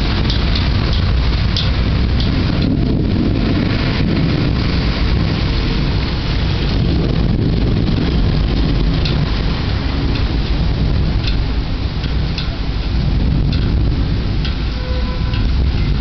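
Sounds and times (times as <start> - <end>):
heavy rain hiss: 0.0 - 16.0
rolling thunder rumble: 0.0 - 16.0.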